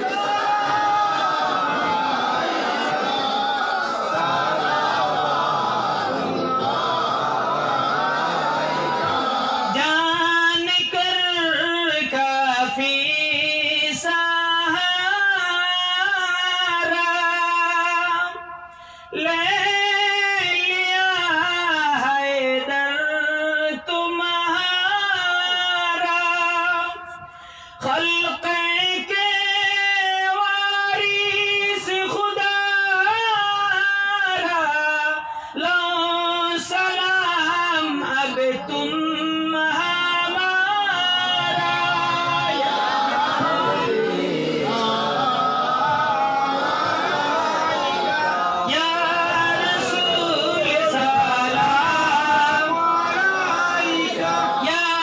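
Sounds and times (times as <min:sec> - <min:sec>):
man singing into a microphone: 0:08.6 - 0:46.6, 0:48.4 - 0:55.0.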